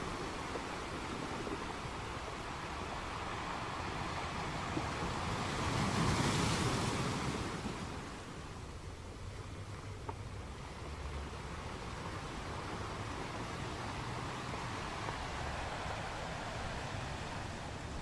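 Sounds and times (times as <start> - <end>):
waves washing in: 0.0 - 18.0.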